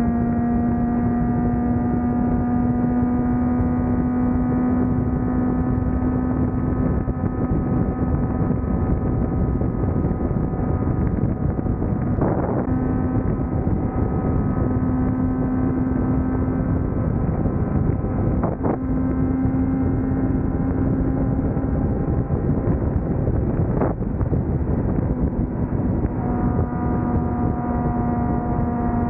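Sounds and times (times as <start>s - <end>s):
motorcycle engine running: 0.0s - 29.0s
wind rush on microphone: 0.0s - 29.0s.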